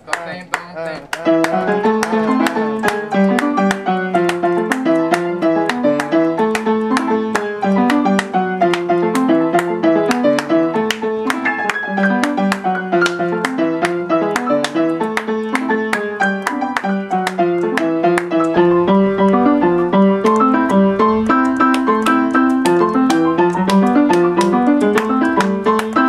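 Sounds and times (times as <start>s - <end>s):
upright piano playing salsa: 0.0s - 26.0s.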